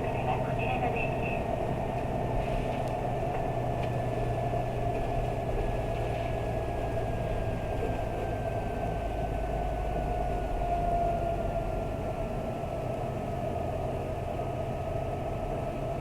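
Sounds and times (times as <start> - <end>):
bus engine low drone: 0.0 - 16.0.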